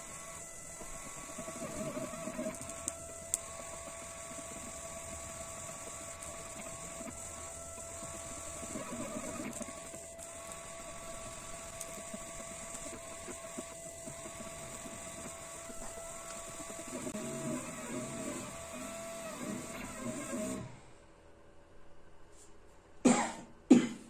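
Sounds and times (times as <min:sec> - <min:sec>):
stepper motors whining: 0:00.0 - 0:20.8.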